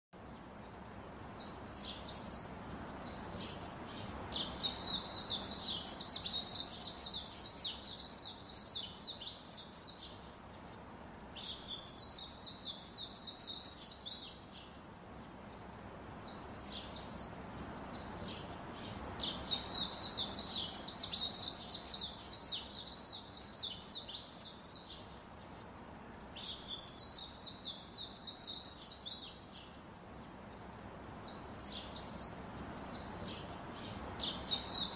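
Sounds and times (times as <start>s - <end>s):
songbird chirping in trills: 0.2s - 34.9s
steady background hiss: 0.2s - 34.9s.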